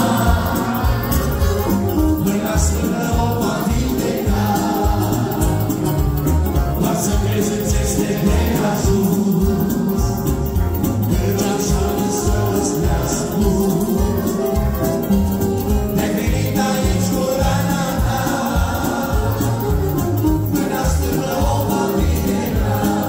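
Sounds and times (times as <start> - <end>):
accordions: 0.0 - 23.0
electronic keyboard: 0.0 - 23.0
men singing together: 0.0 - 23.0.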